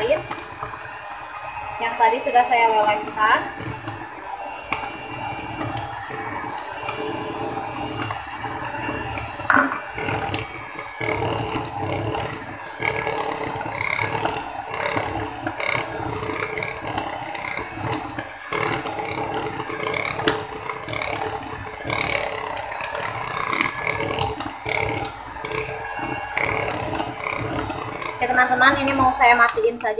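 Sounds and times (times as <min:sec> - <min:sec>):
electric hand mixer whirring: 0:00.0 - 0:29.9.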